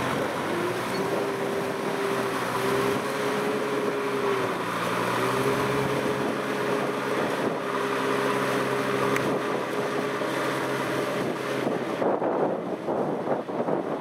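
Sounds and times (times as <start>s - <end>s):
mud and water sloshing: 0.0s - 12.9s.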